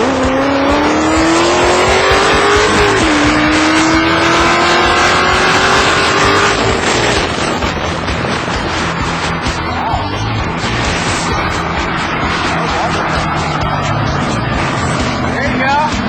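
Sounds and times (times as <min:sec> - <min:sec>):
car engine at full throttle: 0:00.0 - 0:16.0.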